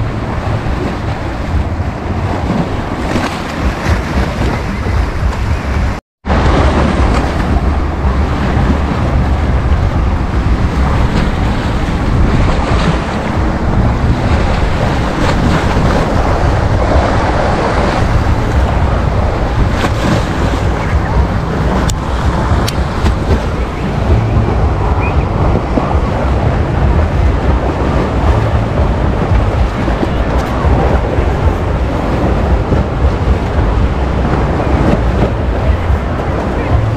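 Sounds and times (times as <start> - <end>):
wind rumbling on microphone: 0.0 - 36.9.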